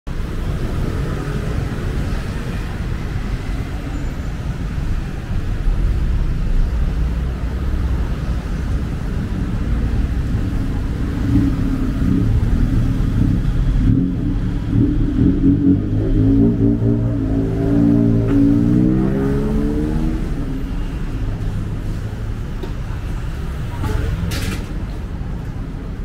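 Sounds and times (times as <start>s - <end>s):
passing car engines rumbling: 0.1s - 26.0s.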